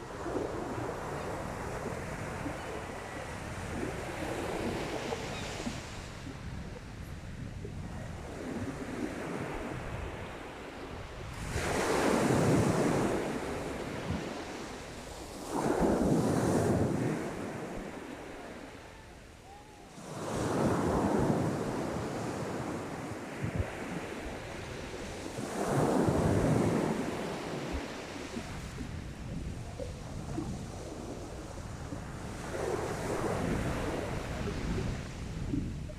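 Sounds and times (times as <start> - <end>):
wind buffeting microphone: 0.0 - 18.4, 19.5 - 35.9.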